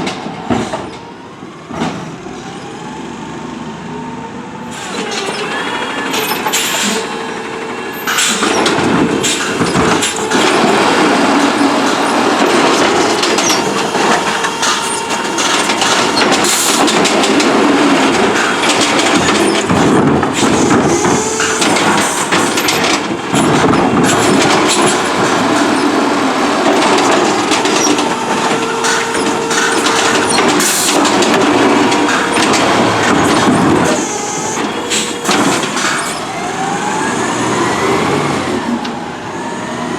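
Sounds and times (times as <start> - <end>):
garbage truck rattling and clattering: 0.0 - 2.8, 4.7 - 38.9.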